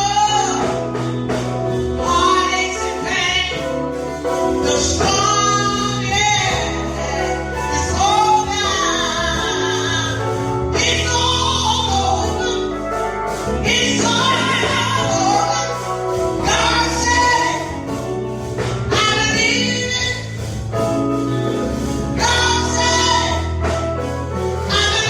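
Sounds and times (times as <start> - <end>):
gospel voices singing: 0.0 - 25.0
steady bass accompaniment: 0.0 - 25.0.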